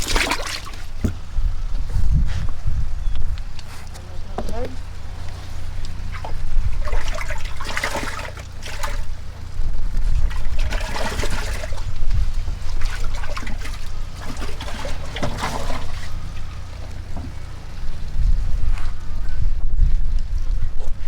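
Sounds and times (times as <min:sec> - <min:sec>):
water splashing and trickling: 0:00.0 - 0:02.0, 0:03.6 - 0:19.0
low steady rumble: 0:00.0 - 0:21.0.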